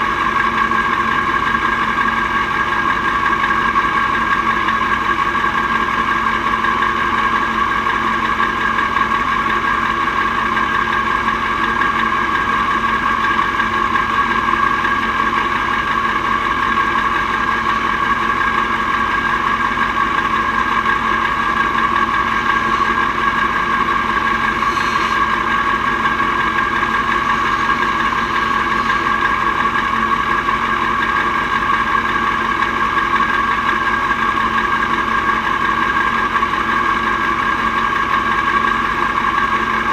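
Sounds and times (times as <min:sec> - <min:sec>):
truck engine running steadily: 0:00.0 - 0:39.9.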